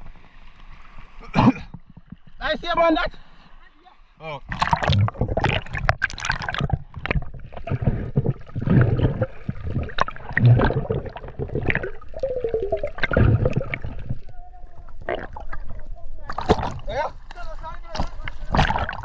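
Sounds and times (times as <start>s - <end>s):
water gurgling and sloshing: 0.0s - 19.0s.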